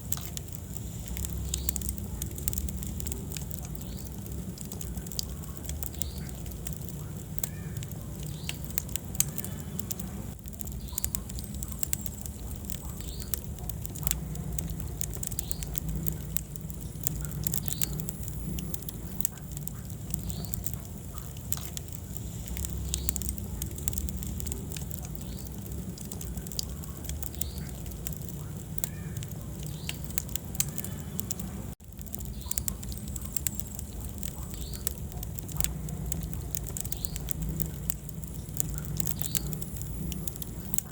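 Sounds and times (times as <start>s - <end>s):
low fire rumble: 0.0s - 40.9s
wood fire crackling and popping: 0.0s - 40.9s.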